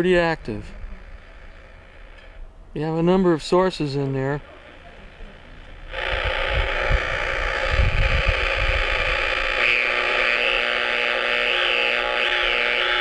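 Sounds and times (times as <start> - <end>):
dense radio static: 0.0 - 13.0.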